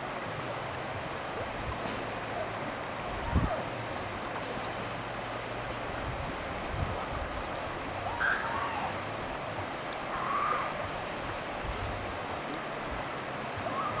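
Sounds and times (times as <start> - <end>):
river water rushing over rapids: 0.0 - 14.0.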